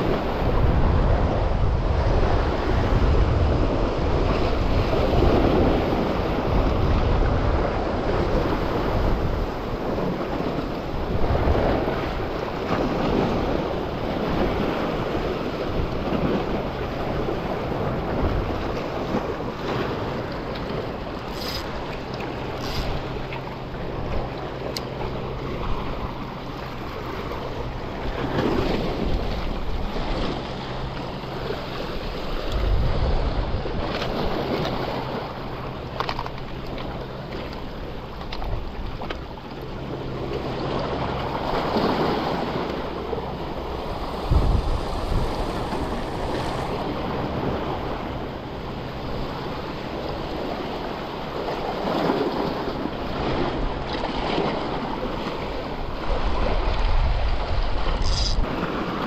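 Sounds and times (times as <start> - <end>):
wind buffeting microphone: 0.0 - 59.0
small waves washing on rocks: 1.9 - 39.3, 49.0 - 59.0.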